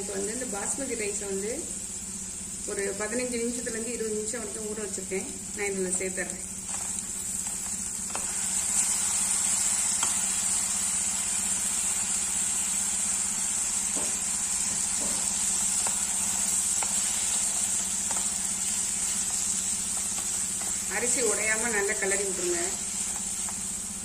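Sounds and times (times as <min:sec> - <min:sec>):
rice sizzling in oil: 0:00.0 - 0:24.0
steady hum and high whine: 0:00.0 - 0:24.0.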